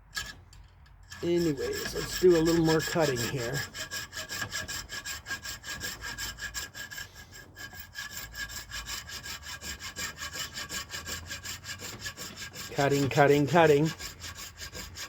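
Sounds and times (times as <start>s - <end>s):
hand saw cutting antler: 1.1s - 15.0s.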